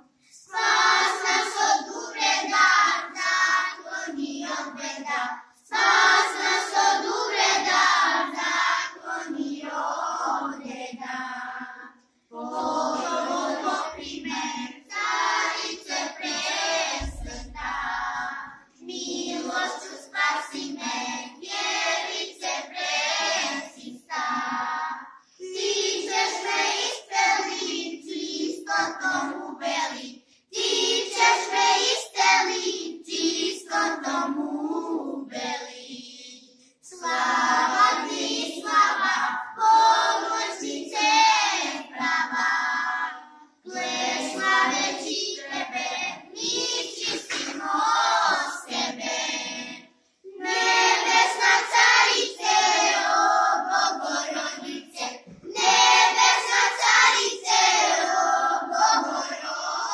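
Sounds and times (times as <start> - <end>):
children singing a hymn: 0.0 - 59.9.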